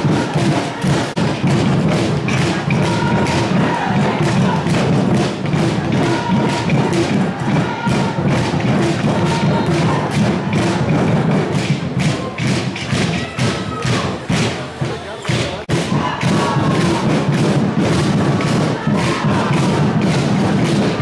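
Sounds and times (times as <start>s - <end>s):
music with heavy beat: 0.0s - 21.0s.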